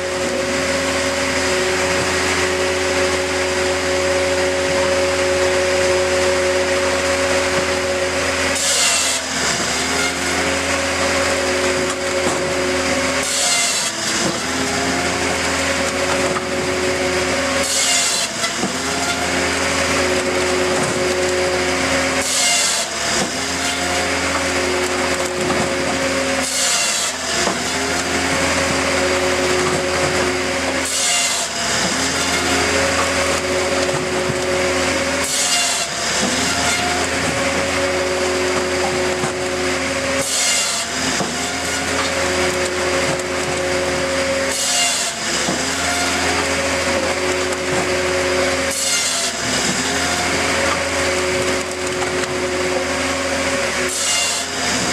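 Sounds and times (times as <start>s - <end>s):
firewood processor engine drone: 0.0s - 54.9s
saw and splitter cutting logs: 0.0s - 54.9s.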